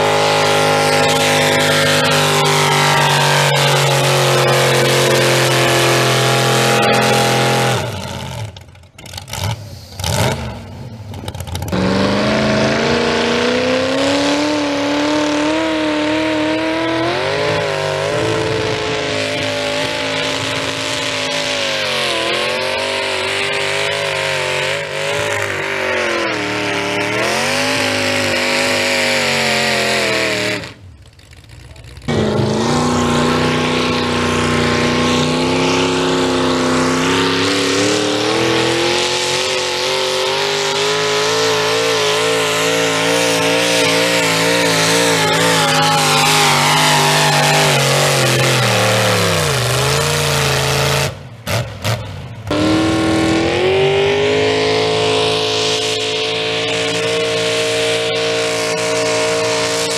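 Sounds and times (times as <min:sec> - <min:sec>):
truck engines revving hard: 0:00.0 - 0:59.9.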